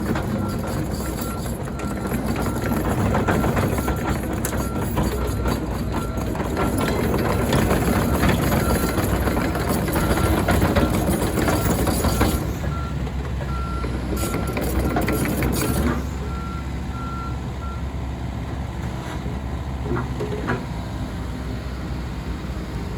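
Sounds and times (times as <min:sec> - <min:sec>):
diesel engine humming: 0:00.0 - 0:22.9.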